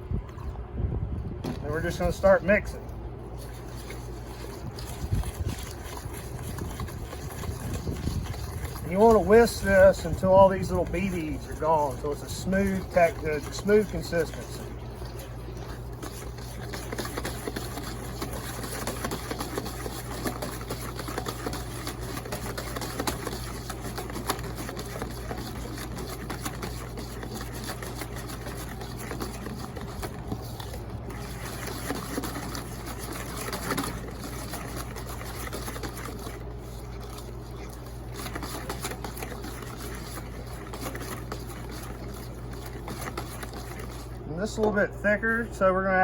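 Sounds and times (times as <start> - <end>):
whisk beating sauce in a bowl: 1.6 - 45.5.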